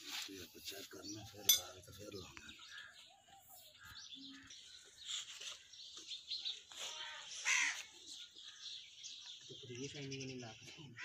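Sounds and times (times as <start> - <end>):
birds calling: 0.2 - 11.0.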